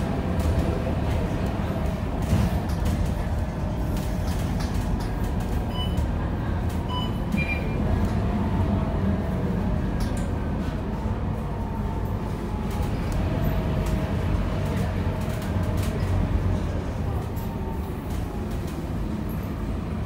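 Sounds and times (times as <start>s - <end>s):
bus diesel engine rumble: 0.0s - 20.0s
road noise: 0.0s - 20.0s.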